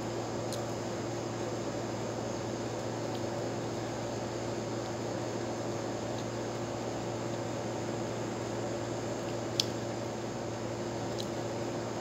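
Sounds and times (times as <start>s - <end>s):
steady hiss and hum: 0.0s - 12.0s.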